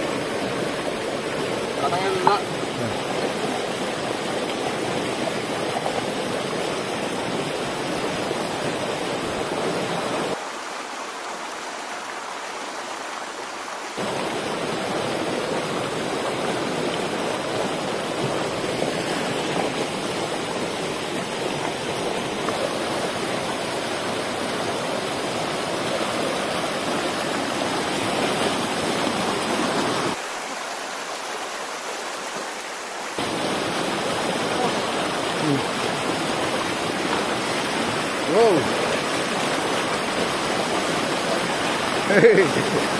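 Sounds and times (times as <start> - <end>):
stream flowing over rocks: 0.0 - 42.9.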